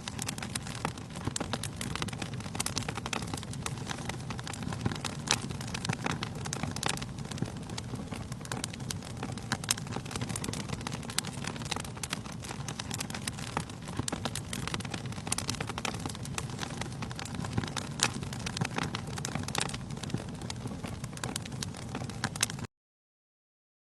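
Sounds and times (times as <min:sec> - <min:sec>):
wood fire crackling: 0:00.0 - 0:22.7.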